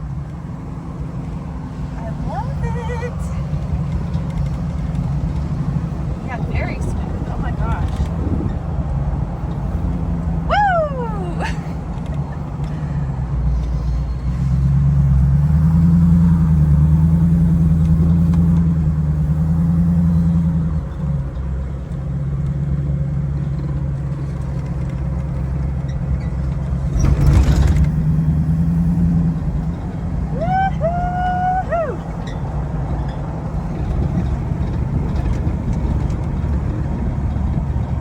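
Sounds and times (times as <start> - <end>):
car engine running: 0.0 - 38.0.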